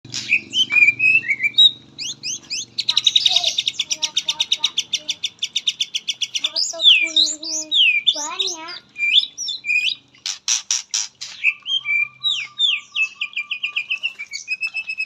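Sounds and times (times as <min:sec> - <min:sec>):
songbird trilling and whistling: 0:00.1 - 0:15.0.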